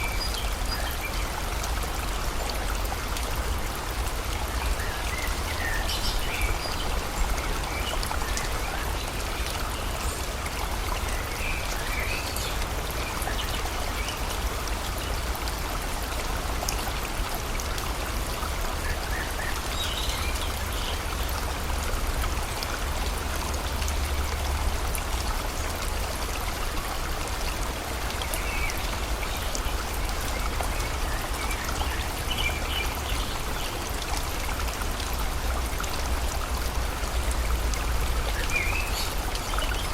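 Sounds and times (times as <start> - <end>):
river flowing: 0.0 - 39.9
steady rain: 0.0 - 39.9.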